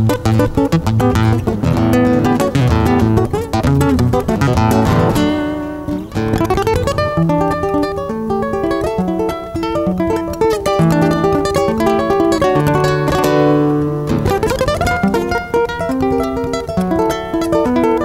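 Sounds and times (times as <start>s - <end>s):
fingerstyle acoustic guitar: 0.0s - 18.0s.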